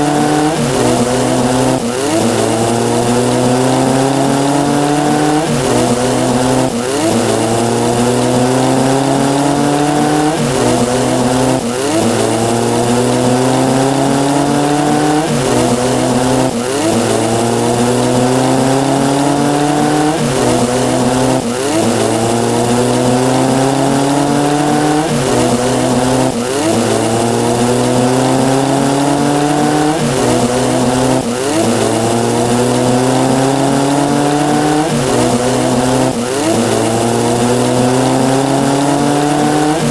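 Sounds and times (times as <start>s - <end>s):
buzzy rising synthesized tone: 0.0s - 39.9s.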